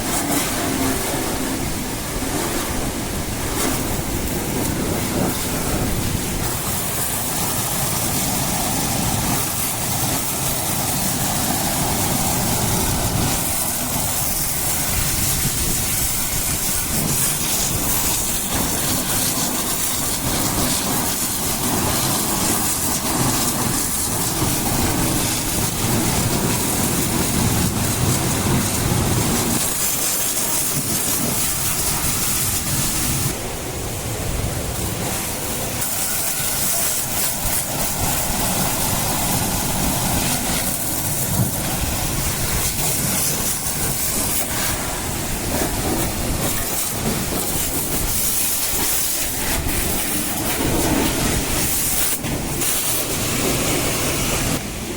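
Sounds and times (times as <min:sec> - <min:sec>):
water jet spraying on machine: 0:00.0 - 0:54.9.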